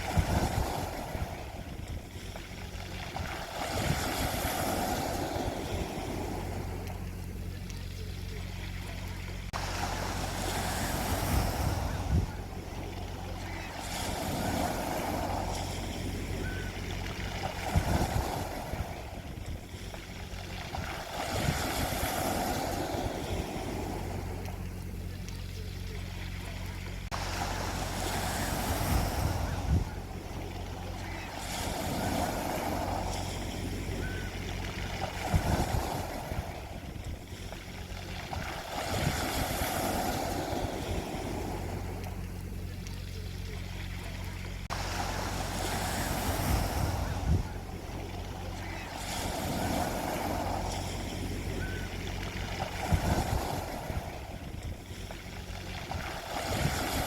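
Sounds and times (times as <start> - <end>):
low rumble: 0.0 - 57.0
sea waves breaking on beach: 0.0 - 57.0.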